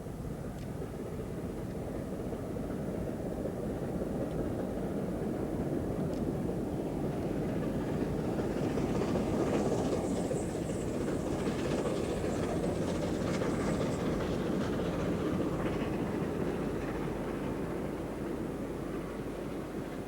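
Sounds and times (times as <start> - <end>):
steam locomotive rumble: 1.3 - 20.0
train clattering over track: 1.3 - 20.0.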